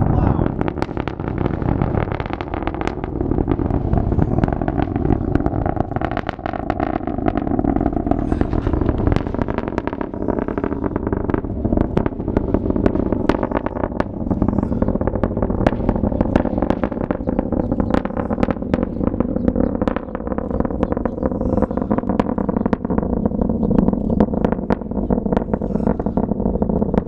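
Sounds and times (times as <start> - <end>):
rocket engine rumble with crackles: 0.0 - 27.0.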